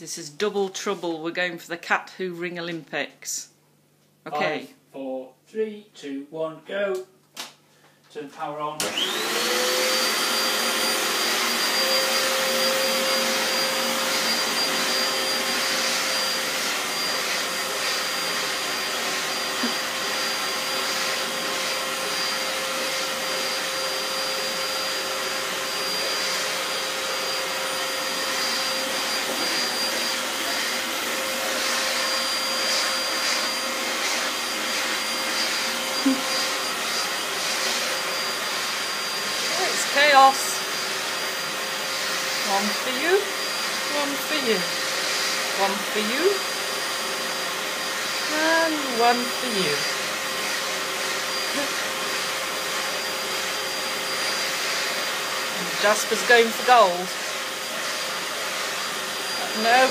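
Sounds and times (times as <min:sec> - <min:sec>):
vacuum cleaner running: 0:08.8 - 0:59.9.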